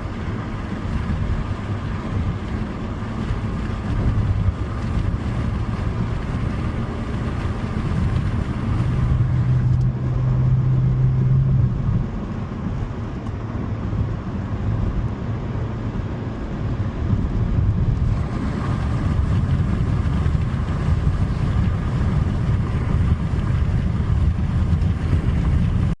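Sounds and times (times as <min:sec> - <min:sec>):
car engine running: 0:00.0 - 0:26.0
road noise: 0:00.0 - 0:26.0.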